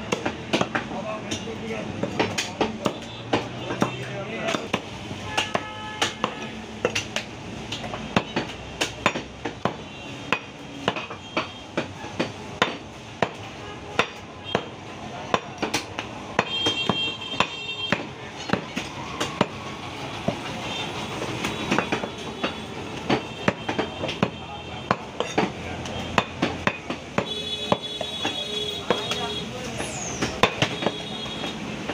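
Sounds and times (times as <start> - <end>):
knife chopping meat on wood: 0.0 - 13.4, 14.0 - 19.6, 21.4 - 29.2, 30.2 - 31.9.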